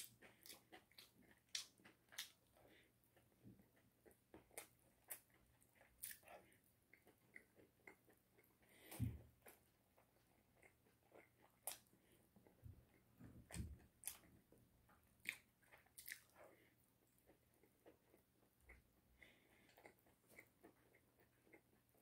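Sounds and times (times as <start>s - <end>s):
chewing and crunching chicken: 0.0s - 22.0s.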